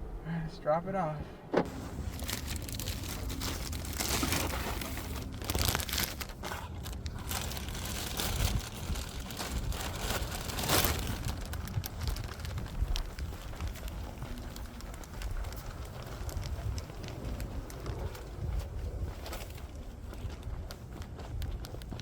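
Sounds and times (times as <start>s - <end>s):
low handling rumble: 0.0s - 22.0s
plastic bags rustling: 1.7s - 20.2s.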